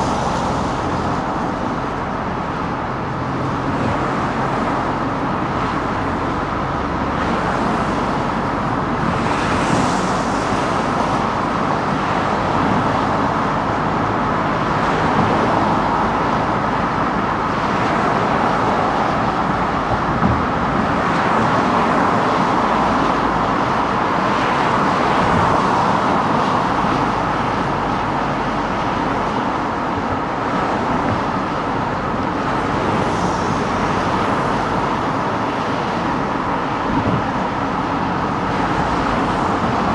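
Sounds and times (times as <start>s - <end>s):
car driving through city traffic: 0.0s - 39.9s.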